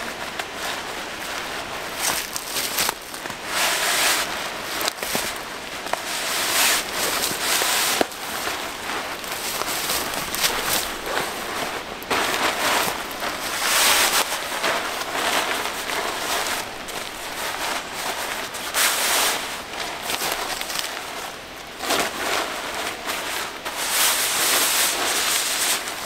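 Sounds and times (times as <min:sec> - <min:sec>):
hammock fabric rustling: 0:00.0 - 0:26.0.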